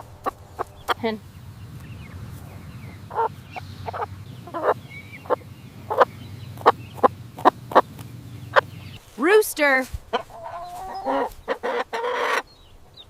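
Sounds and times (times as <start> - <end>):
low background hum: 0.0 - 10.6
hen clucking: 0.0 - 13.0.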